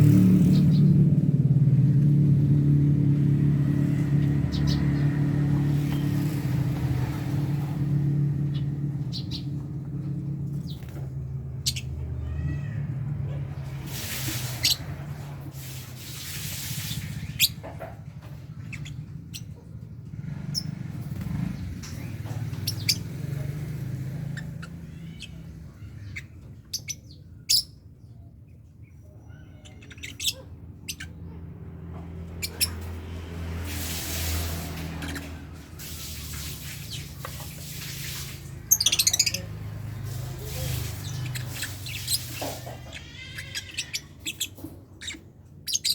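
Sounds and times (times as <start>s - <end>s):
lovebirds chirping and squawking: 0.0s - 45.9s.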